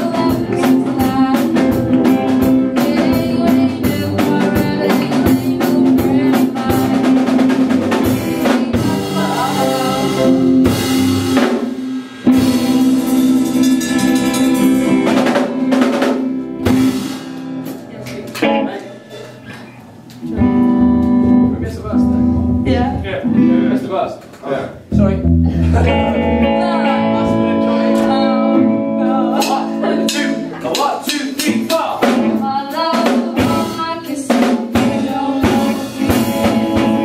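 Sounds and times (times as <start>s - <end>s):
live rock band playing: 0.0s - 24.0s, 24.8s - 37.0s
drum kit: 0.0s - 37.0s.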